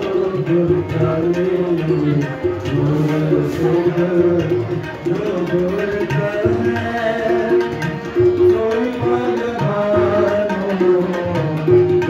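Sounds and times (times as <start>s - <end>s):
tabla drumming: 0.0s - 12.0s.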